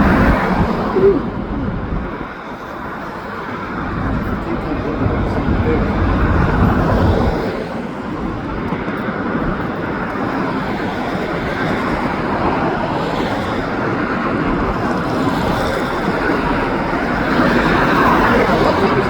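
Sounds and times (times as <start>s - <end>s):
freight train rolling past: 0.0s - 19.0s
highway traffic: 0.0s - 19.0s.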